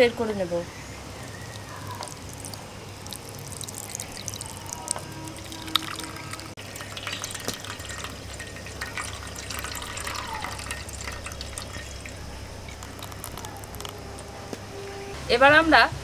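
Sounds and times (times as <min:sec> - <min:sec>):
liquid trickling into a bowl: 0:01.1 - 0:14.3.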